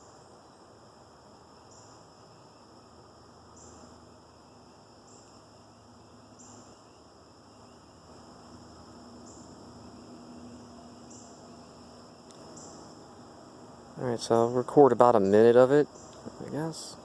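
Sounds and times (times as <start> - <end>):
faint low hum: 0.0 - 17.0
insects trilling: 0.0 - 17.0.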